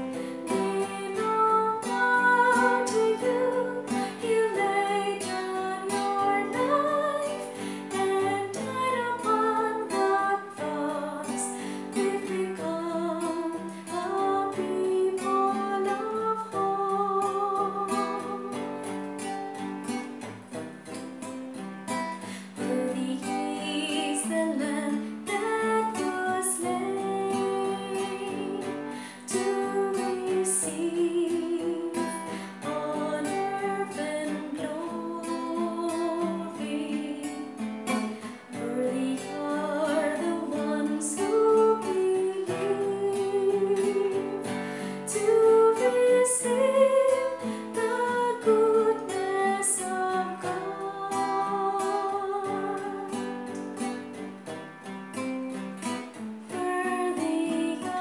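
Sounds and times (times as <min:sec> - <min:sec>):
woman singing a worship song: 0:00.0 - 0:19.0, 0:22.2 - 0:53.4, 0:56.5 - 0:58.0
strummed acoustic guitar: 0:00.0 - 0:58.0.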